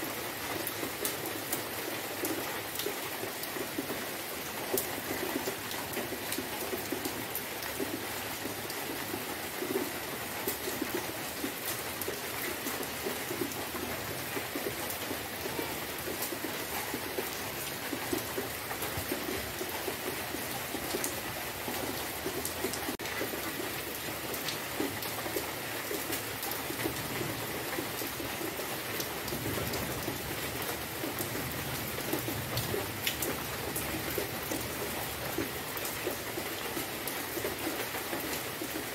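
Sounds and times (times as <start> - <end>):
rain falling on grass: 0.0 - 38.9
raindrops tapping close by: 0.4 - 38.9.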